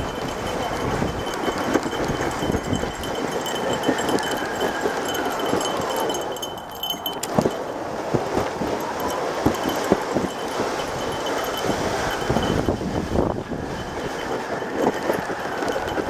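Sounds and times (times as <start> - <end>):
sled knocking on bumps: 0.0 - 12.8, 13.6 - 16.0
light metallic jingling: 0.0 - 16.0
sled scraping over snow: 0.0 - 16.0.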